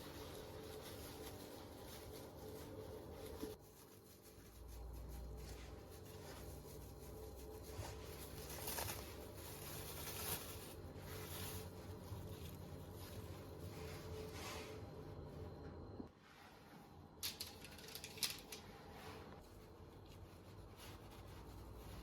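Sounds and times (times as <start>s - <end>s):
brushing sounds: 0.0s - 17.0s, 18.6s - 22.0s
faint steady hum: 0.0s - 22.0s
food preparation handling noises: 0.0s - 22.0s.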